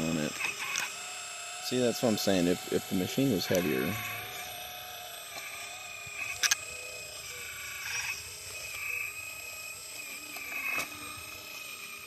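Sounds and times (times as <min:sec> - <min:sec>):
electric motor and pump whining: 0:00.0 - 0:12.0.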